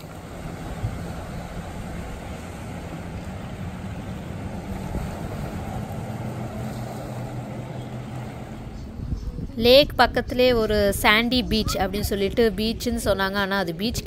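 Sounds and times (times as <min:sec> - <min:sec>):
motorboat engine droning: 0:00.0 - 0:14.0.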